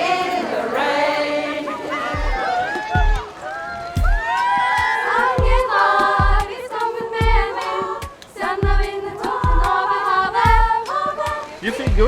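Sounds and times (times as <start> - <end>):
choir singing a cappella: 0.0 - 2.9, 4.8 - 12.0.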